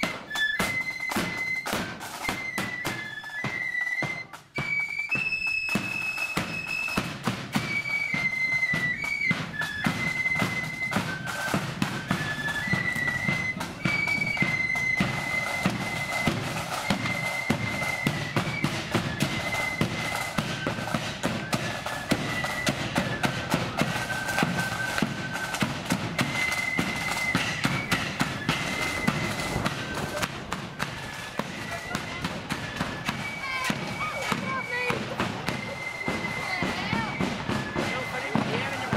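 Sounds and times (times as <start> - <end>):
cymbals: 0.0 - 38.9
shrill flute melody: 0.0 - 38.9.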